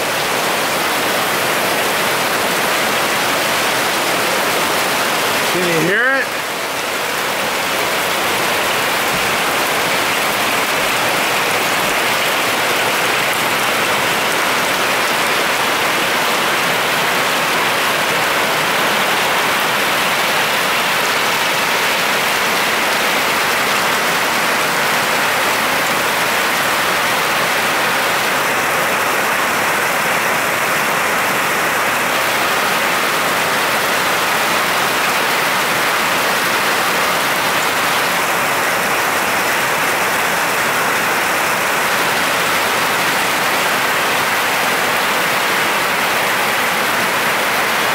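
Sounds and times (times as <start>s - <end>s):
heavy rain on pavement: 0.0s - 47.9s.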